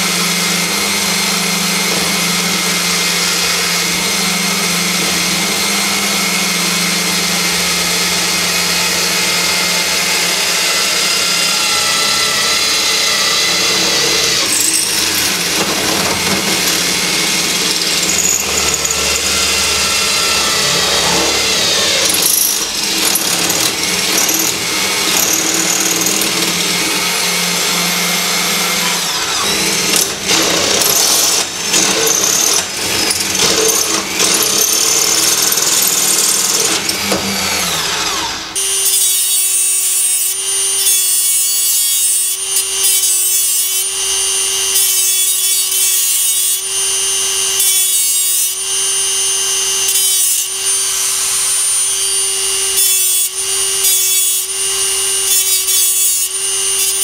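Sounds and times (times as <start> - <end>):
abrasive wheel grinding metal: 0.0 - 57.0
drill press drilling steel: 0.0 - 57.0
rotary tool motor whine: 0.0 - 57.0.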